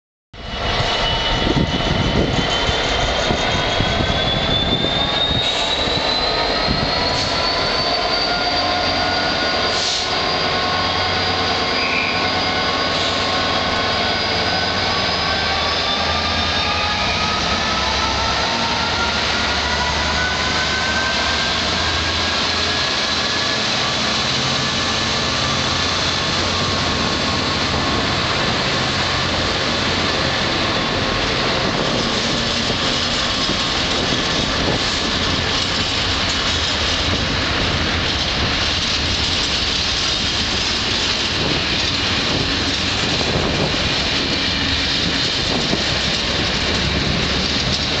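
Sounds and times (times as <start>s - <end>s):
locomotive engine drone and whine: 0.4s - 48.0s
train wheels on rails: 0.4s - 48.0s.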